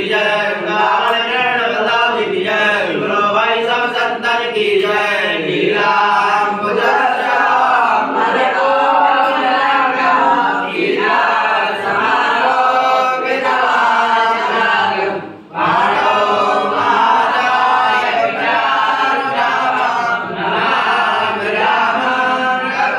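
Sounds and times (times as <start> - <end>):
group of voices chanting a hymn: 0.0 - 22.9.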